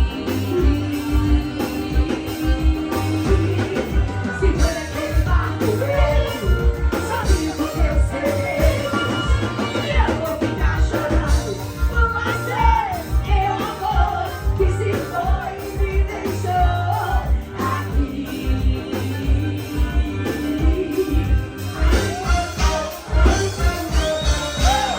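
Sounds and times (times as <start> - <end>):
person singing: 0.0 - 23.8
live band music: 0.0 - 24.9.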